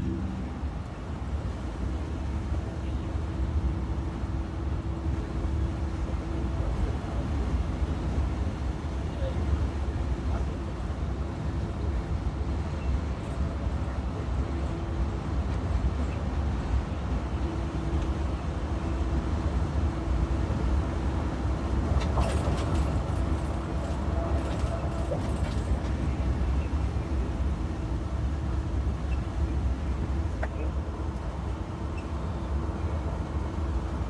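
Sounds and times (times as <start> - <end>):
bus engine and road rumble: 0.0 - 34.0.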